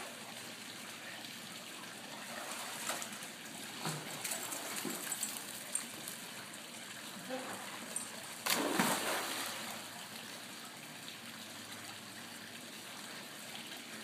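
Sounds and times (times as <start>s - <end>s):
pool water sloshing: 0.0s - 14.0s
light water splashes: 1.7s - 14.0s.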